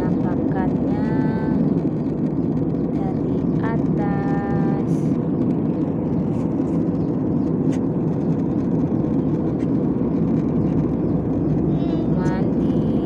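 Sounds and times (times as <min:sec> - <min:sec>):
jet airliner cabin noise: 0:00.0 - 0:13.0.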